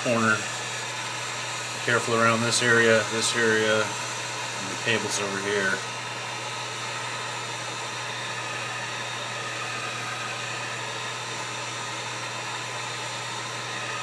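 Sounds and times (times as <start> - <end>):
heat gun blowing hot air: 0.0 - 14.0.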